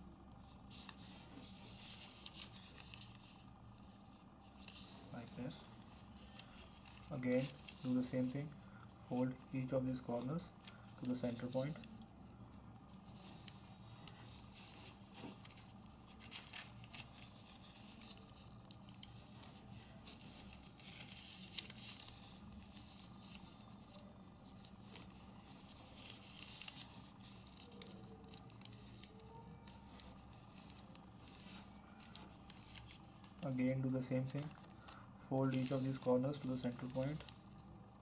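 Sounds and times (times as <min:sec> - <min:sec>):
paper rustling and crinkling: 0:00.3 - 0:37.7.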